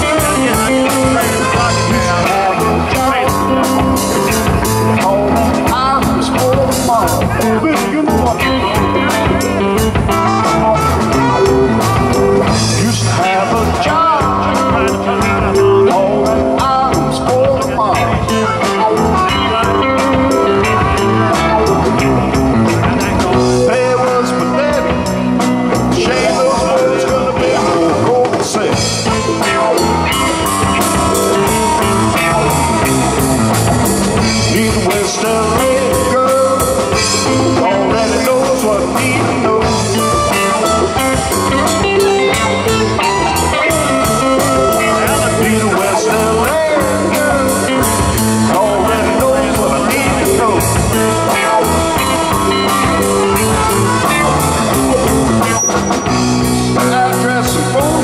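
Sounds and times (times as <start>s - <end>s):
blues-rock band playing: 0.0s - 58.0s.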